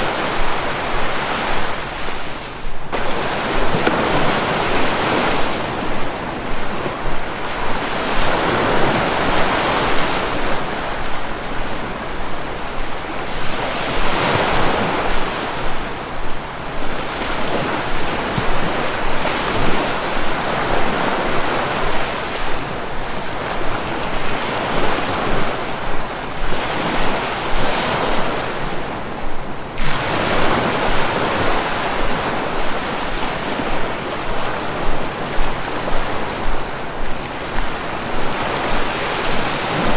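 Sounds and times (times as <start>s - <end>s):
sea waves washing: 0.0s - 39.9s.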